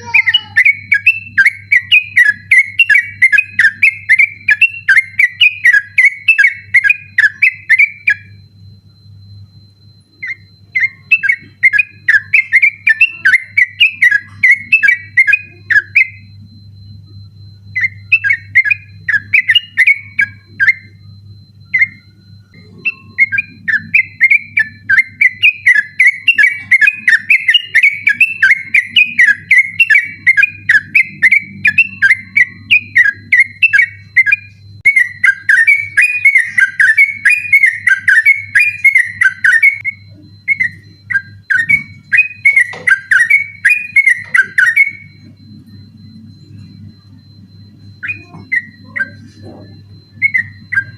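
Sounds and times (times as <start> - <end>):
bird singing chattering whistles: 0.0 - 8.4, 10.2 - 16.3, 17.7 - 21.0, 21.7 - 45.2, 47.9 - 50.9
steady low hum: 0.0 - 50.9.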